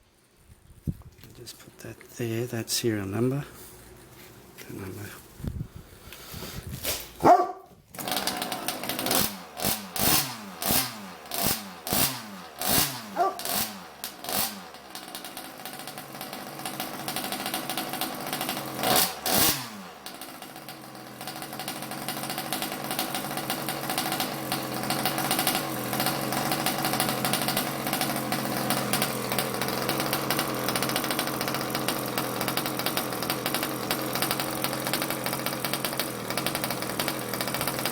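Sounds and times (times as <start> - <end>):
small two-stroke engine revving: 6.9 - 37.9
small two-stroke engine idling: 7.2 - 37.9.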